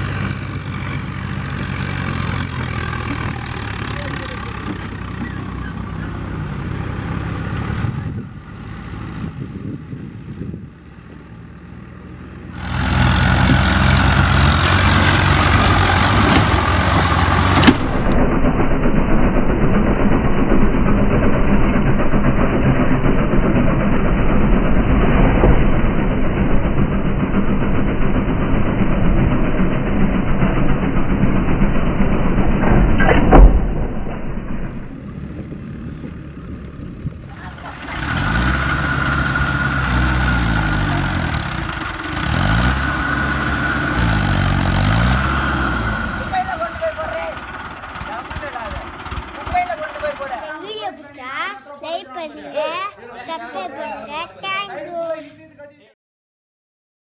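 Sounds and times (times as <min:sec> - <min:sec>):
tractor diesel engine working hard: 0:00.0 - 0:33.7, 0:34.3 - 0:51.0.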